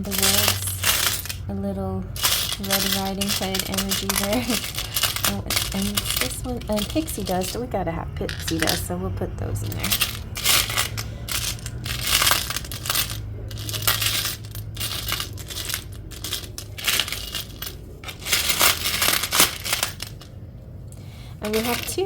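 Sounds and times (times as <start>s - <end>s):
metal charms clinking: 0.0s - 20.4s, 21.0s - 22.0s.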